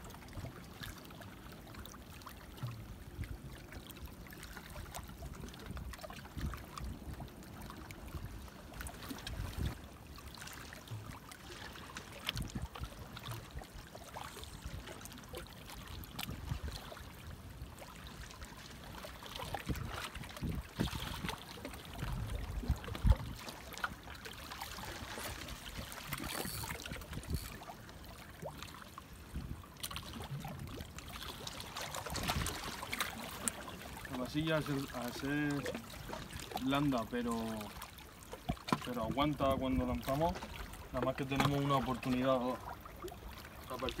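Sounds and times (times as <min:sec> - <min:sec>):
waves lapping against a jetty: 0:00.0 - 0:44.0.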